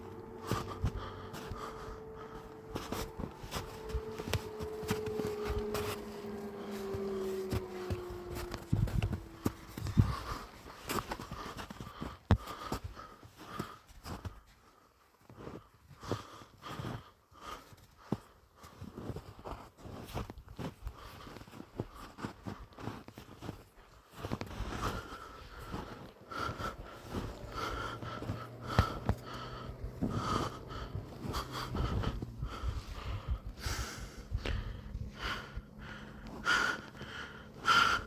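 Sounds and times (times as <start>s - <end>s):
person breathing hard: 0.0s - 19.2s, 24.2s - 38.0s
footsteps crunching in deep snow: 0.0s - 38.0s.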